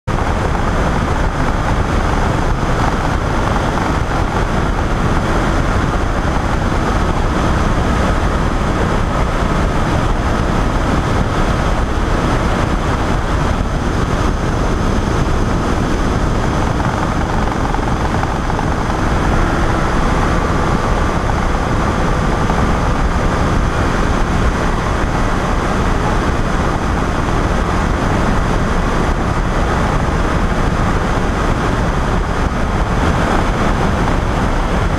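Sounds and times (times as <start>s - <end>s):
propeller engine running: 0.0s - 34.9s
rush of air noise: 0.0s - 34.9s
faint steady whine: 0.1s - 34.9s.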